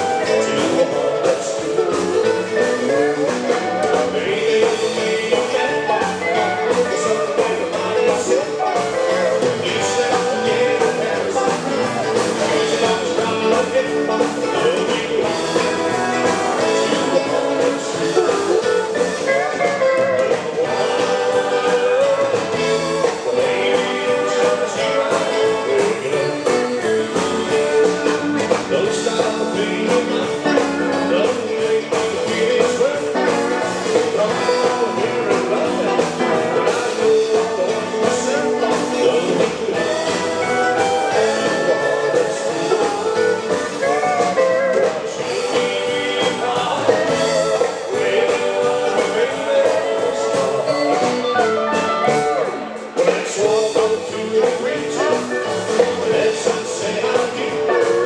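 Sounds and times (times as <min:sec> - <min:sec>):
live band playing: 0:00.0 - 0:58.0
vocals: 0:00.0 - 0:58.0.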